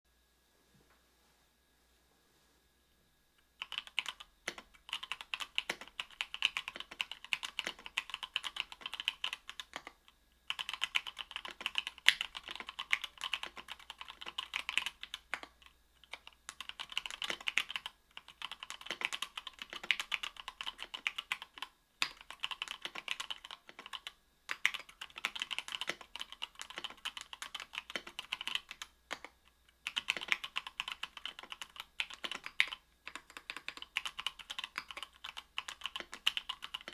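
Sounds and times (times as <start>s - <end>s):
mechanical keyboard keys clacking: 3.6s - 29.3s, 29.9s - 36.9s.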